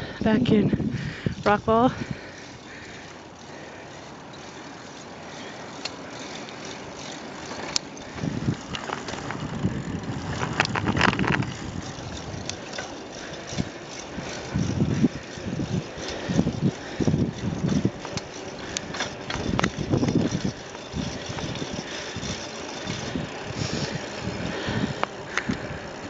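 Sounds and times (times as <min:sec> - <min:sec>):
bicycle clicks and rattles: 0:00.0 - 0:26.0
wind and rolling noise: 0:00.0 - 0:26.0.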